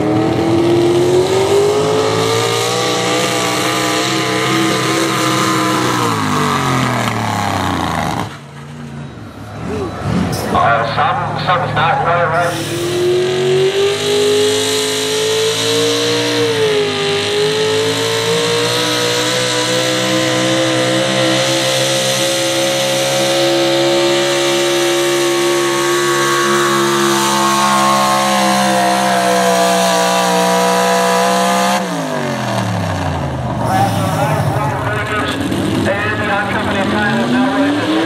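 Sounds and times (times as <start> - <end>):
truck engine running flat out: 0.0 - 38.0.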